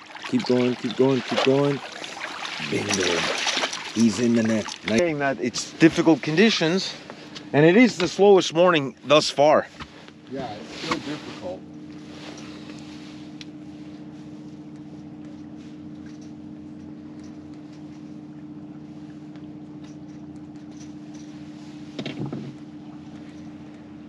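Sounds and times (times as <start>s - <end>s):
outboard motor humming: 0.0s - 24.0s.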